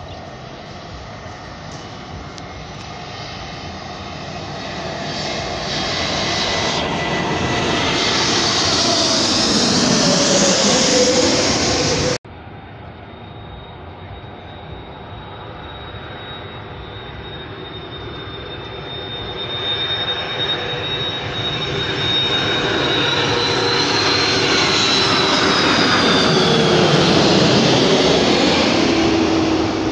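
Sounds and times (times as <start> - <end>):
jet airliner passing overhead: 0.0 - 29.9.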